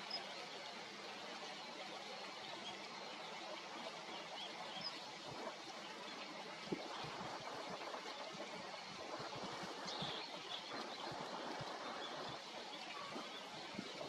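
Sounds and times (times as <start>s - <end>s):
steady outdoor background noise: 0.0s - 14.0s.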